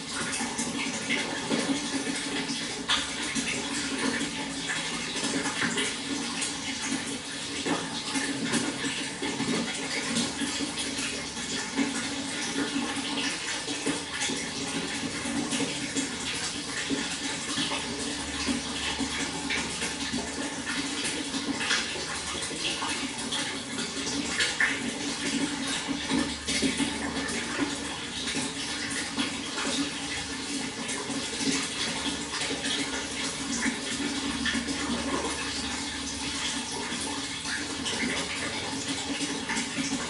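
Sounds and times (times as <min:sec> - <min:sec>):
water flowing: 0:00.0 - 0:40.0.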